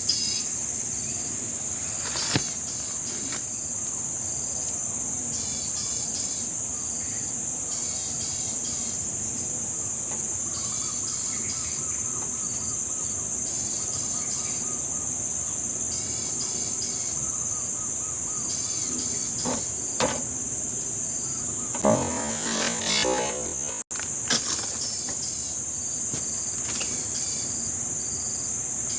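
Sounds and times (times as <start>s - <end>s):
short insect chirps: 0.0s - 4.6s, 5.3s - 28.9s
high-pitched insect chorus: 0.0s - 28.9s.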